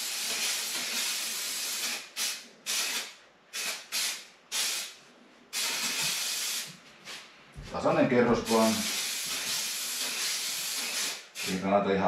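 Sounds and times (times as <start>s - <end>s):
aerosol can spraying bursts: 0.0s - 6.7s, 8.5s - 11.6s.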